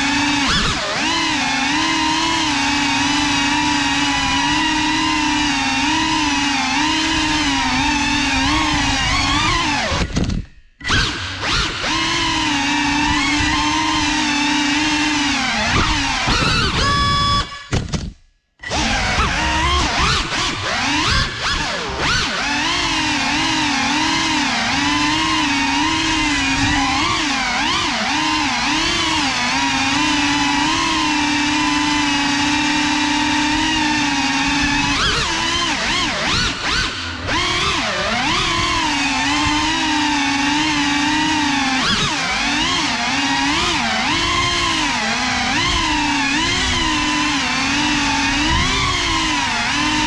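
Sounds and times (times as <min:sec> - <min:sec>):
drone motors whining: 0:00.0 - 0:17.8, 0:18.6 - 0:50.0.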